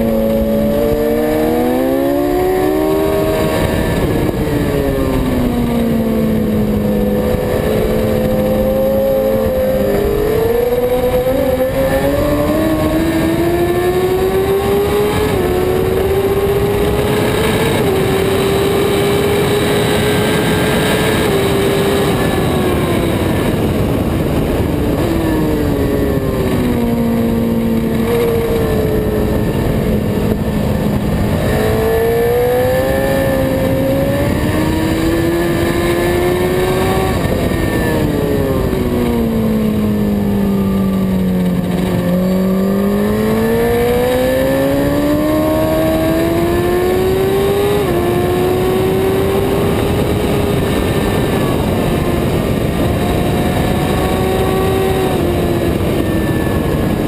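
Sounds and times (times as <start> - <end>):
motorcycle engine revving: 0.0 - 57.0
wind rush: 0.0 - 57.0.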